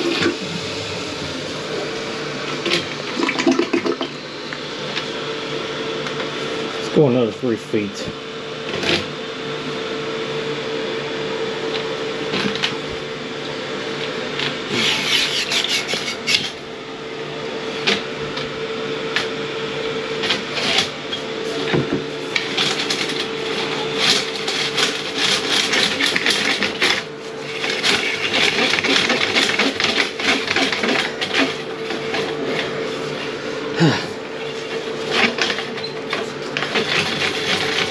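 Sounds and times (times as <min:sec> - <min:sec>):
drain snake motor hum: 0:00.0 - 0:37.9.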